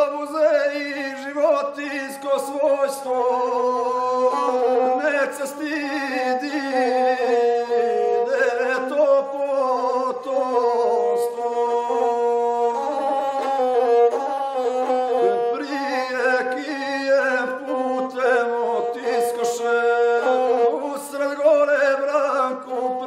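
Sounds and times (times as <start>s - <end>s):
bowed single-string fiddle: 0.0s - 23.0s
man singing epic song: 0.0s - 23.0s.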